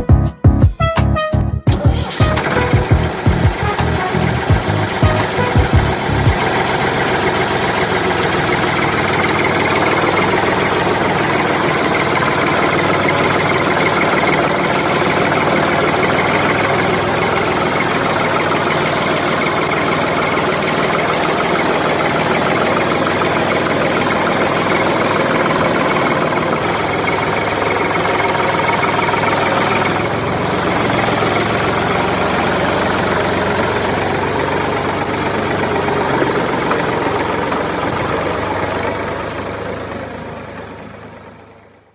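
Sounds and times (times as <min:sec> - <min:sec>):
loud engine running: 0:01.7 - 0:41.9.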